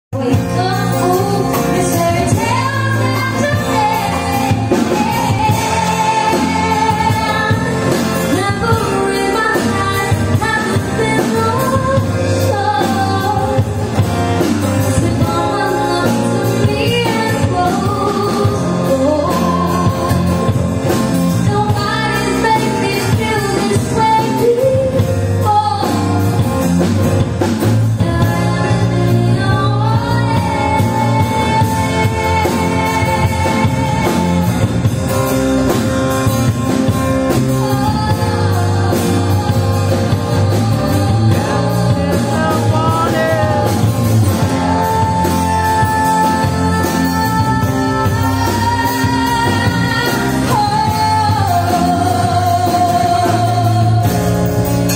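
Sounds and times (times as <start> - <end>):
drum kit: 0.1 - 54.9
electric and acoustic guitars: 0.1 - 54.9
woman singing: 0.2 - 26.6, 27.6 - 54.7.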